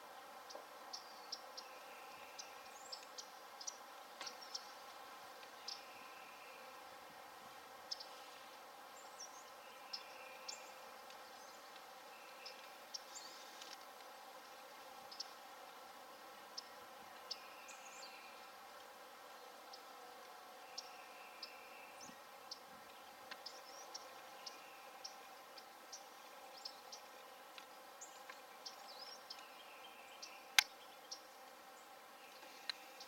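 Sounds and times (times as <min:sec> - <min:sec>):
small birds chirping: 0:00.4 - 0:06.9, 0:07.8 - 0:15.8, 0:16.4 - 0:20.0, 0:20.6 - 0:33.0.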